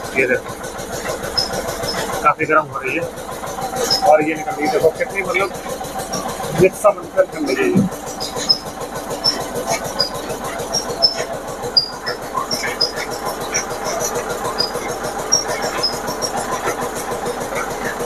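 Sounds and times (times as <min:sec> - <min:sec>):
oil press mechanical chatter: 0:00.0 - 0:18.0.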